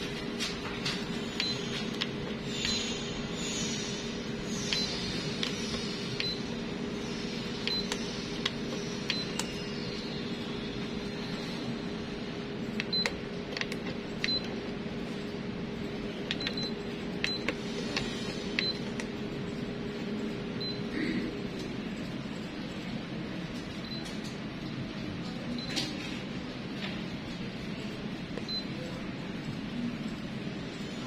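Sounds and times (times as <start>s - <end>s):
copier machine hum: 0.0s - 31.0s.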